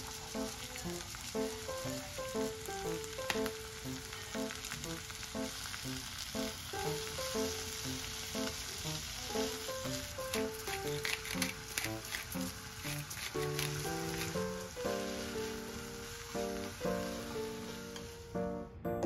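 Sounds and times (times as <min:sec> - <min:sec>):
vegetables sizzling in frying pan: 0:00.0 - 0:18.5
soft background music: 0:00.0 - 0:19.0.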